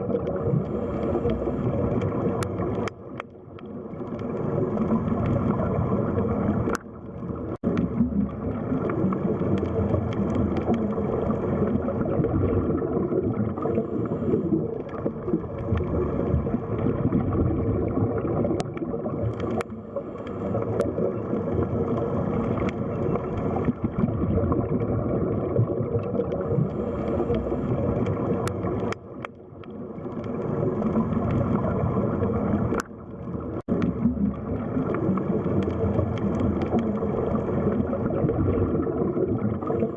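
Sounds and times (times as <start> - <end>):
underwater rush with gurgling: 0.0 - 39.9.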